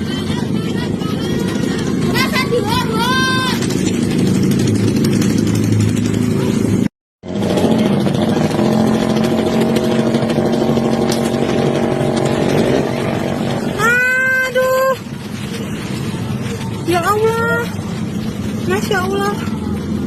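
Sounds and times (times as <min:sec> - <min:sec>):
motorcycle with loud exhaust: 0:00.0 - 0:20.0.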